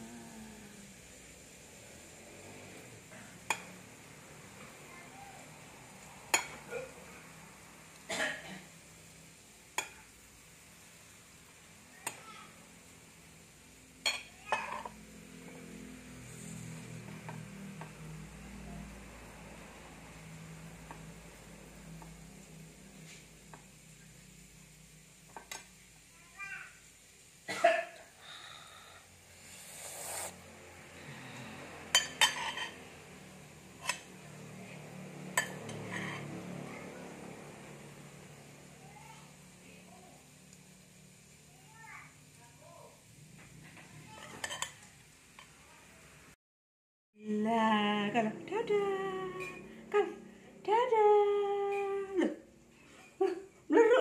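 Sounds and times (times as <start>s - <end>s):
faint steady hum: 0.0s - 43.5s.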